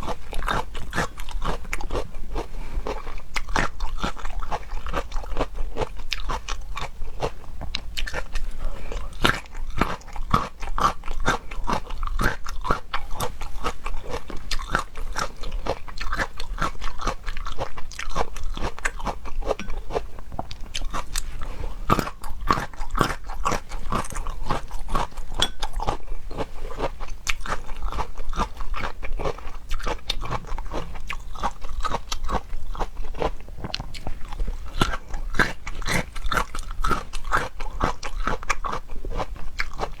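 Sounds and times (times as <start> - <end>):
crunchy food chewing: 0.0 - 40.0.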